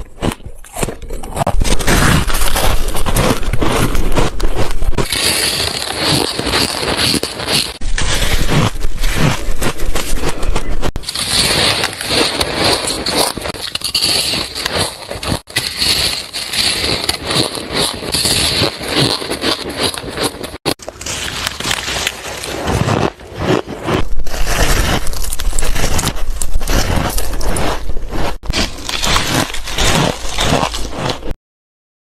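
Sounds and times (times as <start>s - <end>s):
frost crunching and crackling: 0.0s - 31.4s.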